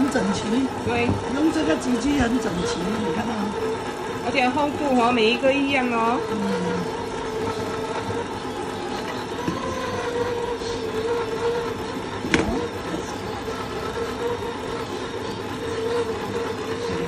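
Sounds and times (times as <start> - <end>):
electric motor hum: 0.0 - 17.0.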